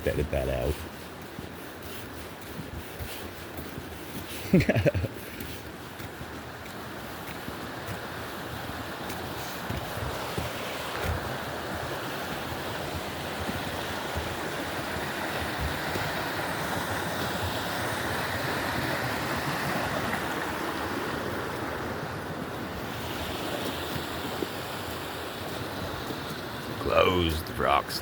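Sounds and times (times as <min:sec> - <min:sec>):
stream water flowing: 0:00.1 - 0:28.0.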